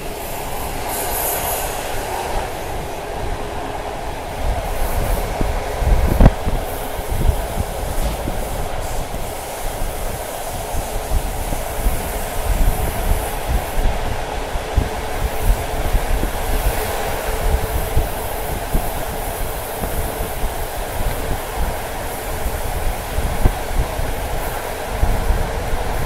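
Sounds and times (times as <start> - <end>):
train wheels rumbling on rails: 0.0 - 26.0
wind buffeting microphone: 0.0 - 26.0.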